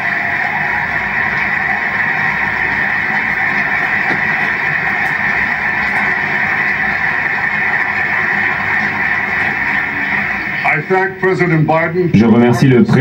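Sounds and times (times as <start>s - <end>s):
crowd applause through speaker: 0.0s - 13.0s.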